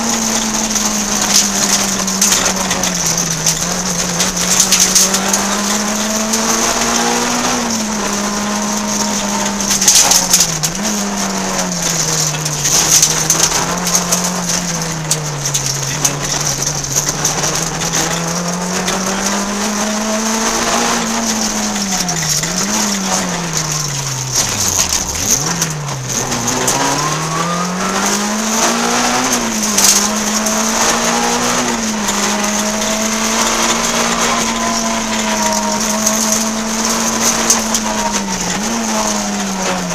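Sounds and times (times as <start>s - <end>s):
car engine revving: 0.0s - 39.9s
knocks and rattles: 0.0s - 39.9s
road noise: 0.0s - 39.9s.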